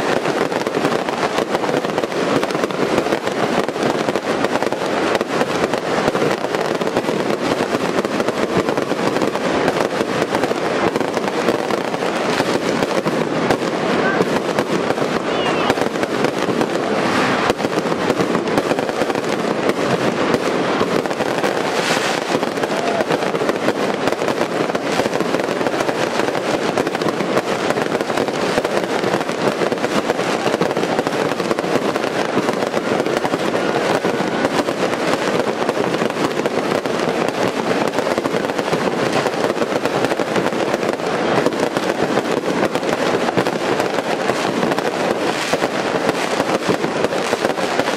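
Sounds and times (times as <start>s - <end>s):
fireworks crackling bangs: 0.0s - 47.9s
sharp fireworks cracks: 0.0s - 47.9s.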